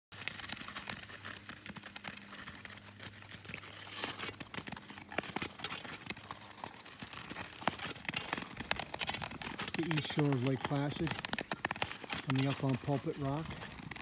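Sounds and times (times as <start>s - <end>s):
ice skates scraping on ice: 0.2s - 14.0s.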